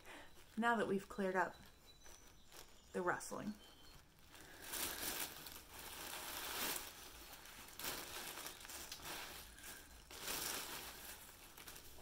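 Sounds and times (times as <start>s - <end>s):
paper packing rustling and crinkling: 0.0s - 12.0s.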